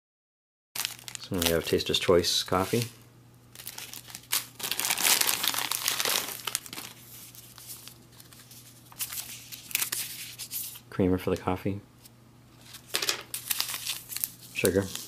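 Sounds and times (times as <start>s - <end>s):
plastic and paper packets crinkling: 0.8s - 10.8s, 12.6s - 15.0s.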